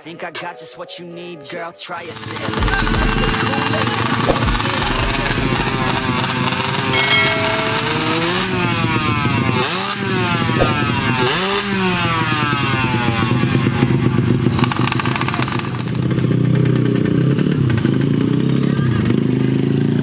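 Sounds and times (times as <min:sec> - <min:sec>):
motorcycles racing: 0:02.4 - 0:20.0.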